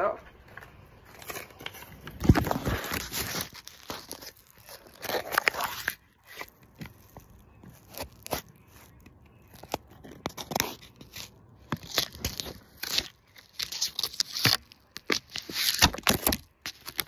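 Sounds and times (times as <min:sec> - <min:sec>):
handling clicks and scrapes: 0:00.4 - 0:17.0.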